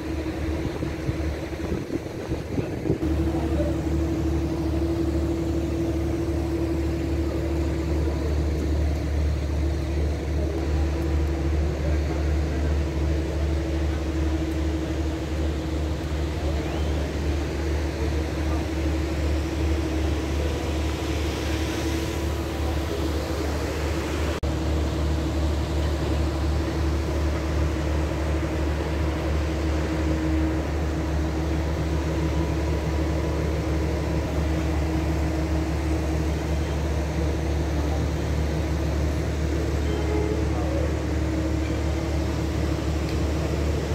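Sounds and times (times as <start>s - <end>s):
constant hum tone: 0.0s - 43.9s
low mechanical drone: 0.0s - 43.9s.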